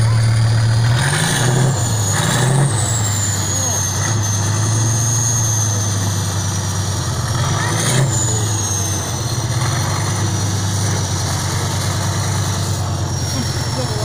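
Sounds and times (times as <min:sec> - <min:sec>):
diesel engine idling: 0:00.0 - 0:14.0
engine revving: 0:00.0 - 0:14.0
high whine: 0:01.6 - 0:14.0.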